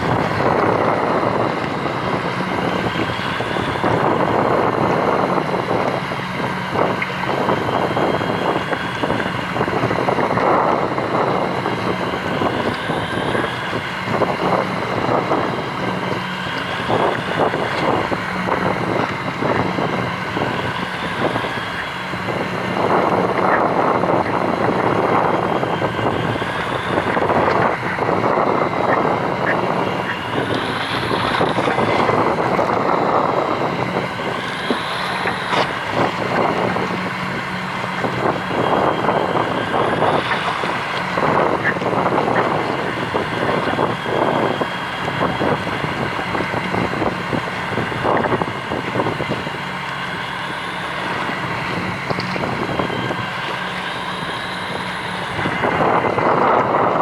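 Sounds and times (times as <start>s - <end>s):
boat engine droning: 0.0s - 57.0s
wind and water: 0.0s - 57.0s.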